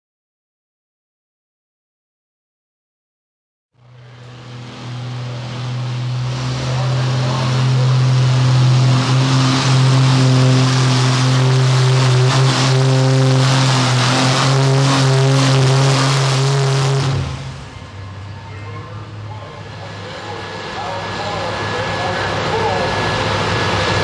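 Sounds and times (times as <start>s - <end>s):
tractor engine running hard: 3.8s - 24.0s.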